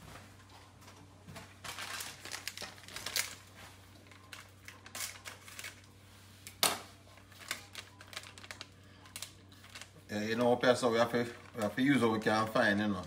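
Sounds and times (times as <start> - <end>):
plastic sachets crinkling and tearing: 1.5 - 13.0.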